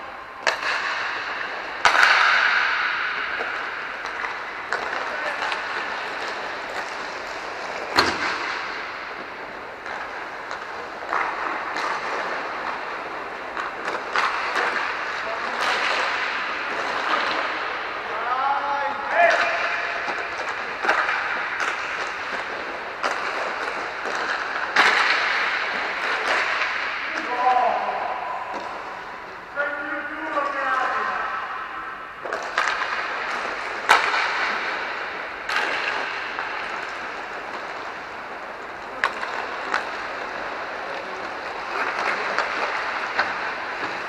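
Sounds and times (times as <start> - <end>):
hockey sticks and puck clacking: 0.0 - 44.0.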